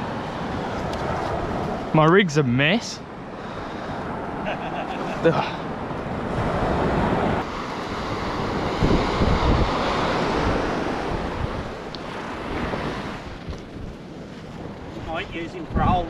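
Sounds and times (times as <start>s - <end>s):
surf washing on beach: 0.0s - 16.0s
wind buffeting microphone: 3.1s - 16.0s.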